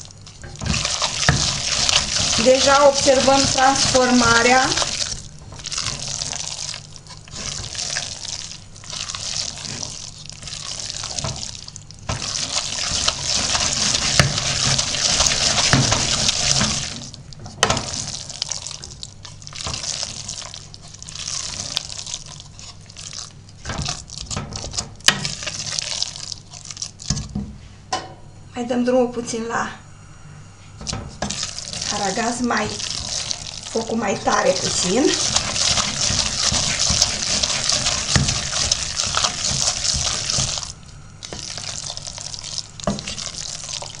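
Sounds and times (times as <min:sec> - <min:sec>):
wooden spoon stirring curds in pot: 0:00.0 - 0:27.6, 0:30.9 - 0:44.0.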